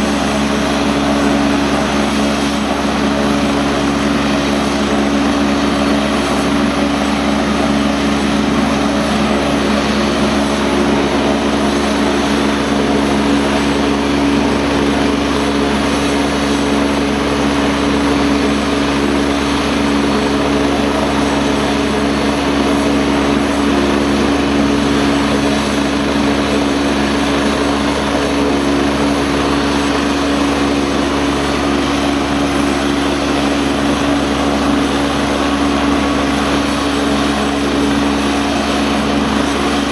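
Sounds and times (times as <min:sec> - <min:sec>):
helicopter engine whine: 0:00.0 - 0:39.9
rotor drone: 0:00.0 - 0:39.9.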